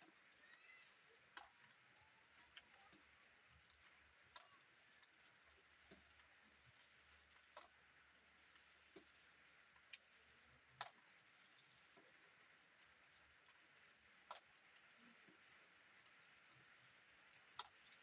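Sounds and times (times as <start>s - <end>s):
faint rain hiss: 0.0s - 18.0s
raindrops ticking: 0.0s - 18.0s.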